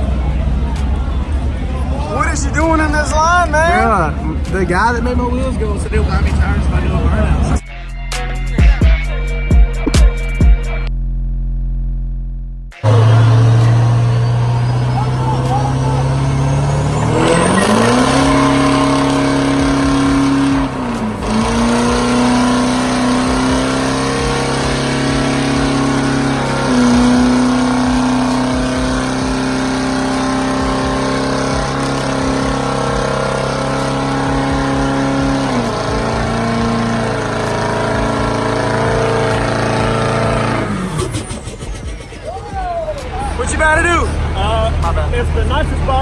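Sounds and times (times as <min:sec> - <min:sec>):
pickup truck engine revving hard: 0:00.0 - 0:07.6, 0:12.8 - 0:46.0
tires spinning: 0:00.0 - 0:07.6, 0:12.7 - 0:46.0.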